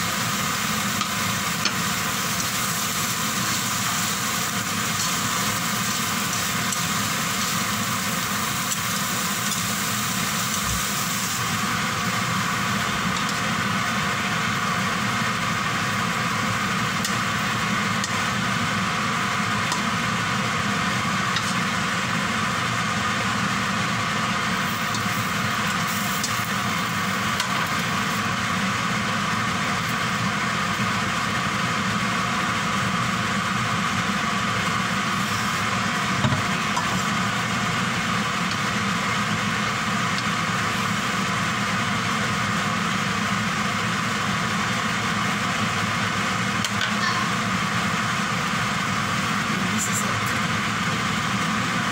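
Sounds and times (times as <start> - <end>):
extractor fan whirring: 0.0 - 51.9.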